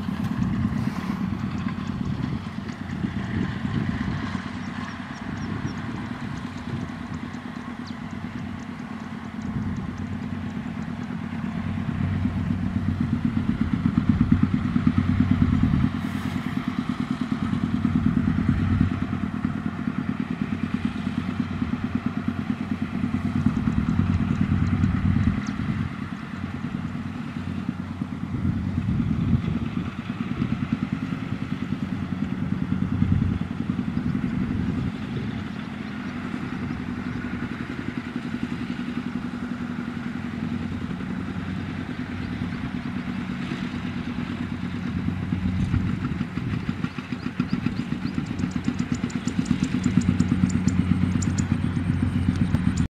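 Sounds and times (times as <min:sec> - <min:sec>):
small diesel engine running: 0:00.0 - 0:52.9.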